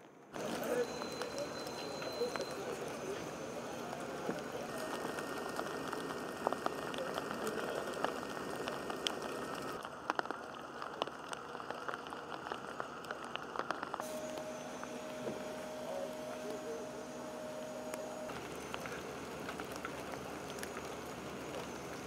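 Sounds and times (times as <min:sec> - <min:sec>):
light rain pattering: 0:00.1 - 0:22.0.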